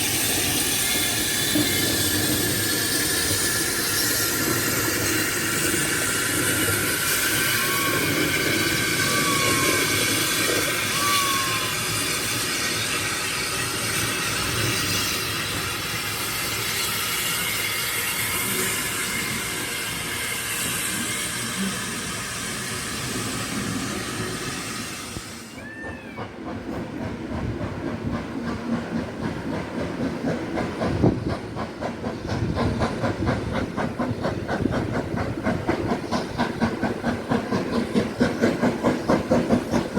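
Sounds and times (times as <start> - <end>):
steam hissing: 0.0 - 39.9
steam locomotive exhaust beats: 0.0 - 39.9.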